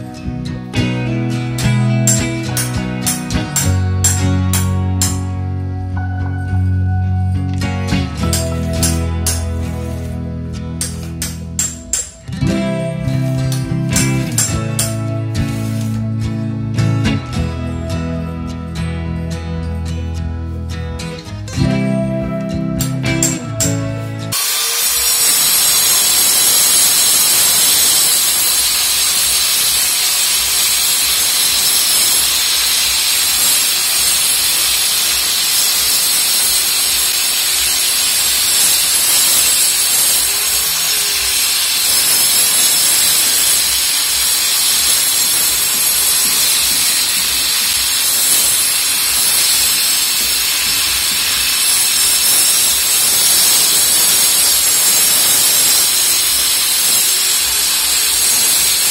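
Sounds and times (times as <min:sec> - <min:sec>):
angle grinder cutting wall: 0:00.0 - 0:06.3, 0:07.5 - 0:58.9.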